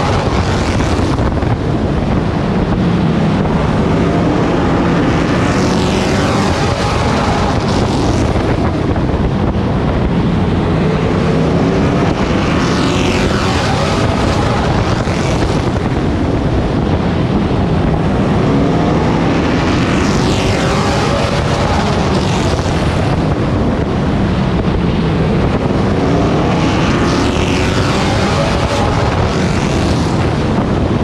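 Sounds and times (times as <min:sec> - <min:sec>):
race truck engine: 0:00.0 - 0:31.0
wind rushing over microphone: 0:00.0 - 0:31.0.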